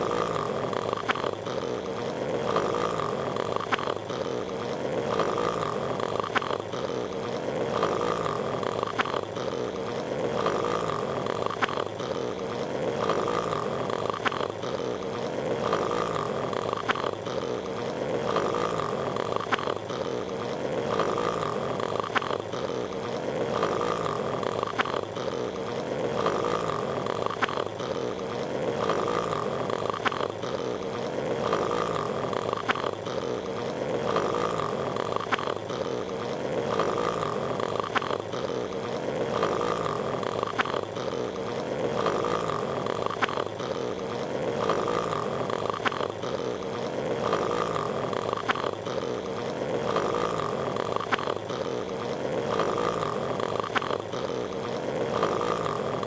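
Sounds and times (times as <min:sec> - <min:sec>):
cartoon snoring: 0:00.0 - 0:56.0.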